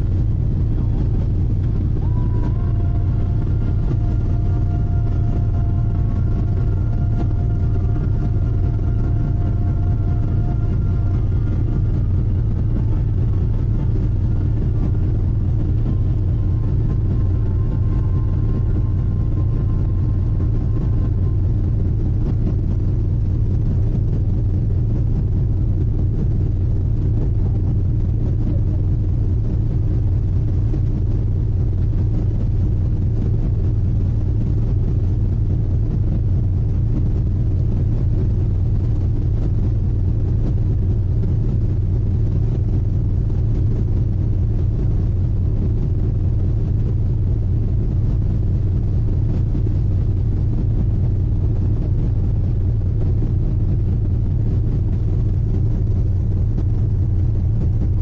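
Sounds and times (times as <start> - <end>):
even hum: 0.0 - 58.0
ship engines rumbling: 0.0 - 58.0.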